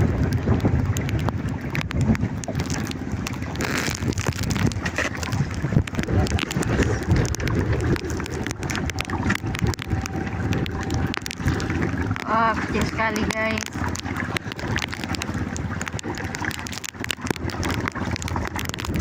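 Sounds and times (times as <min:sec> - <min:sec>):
heavy rain on boat and water: 0:00.0 - 0:19.0
wind buffeting microphone: 0:00.0 - 0:19.0.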